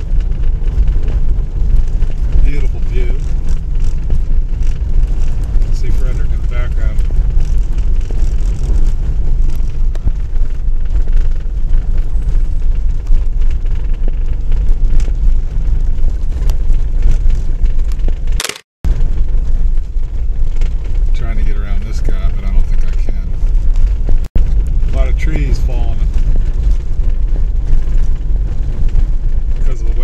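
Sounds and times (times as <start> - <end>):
car driving on snowy road: 0.0 - 30.0.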